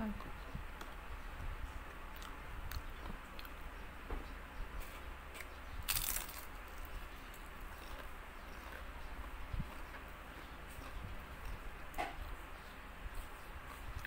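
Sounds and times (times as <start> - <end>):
crunching and chewing food: 0.1 - 14.0.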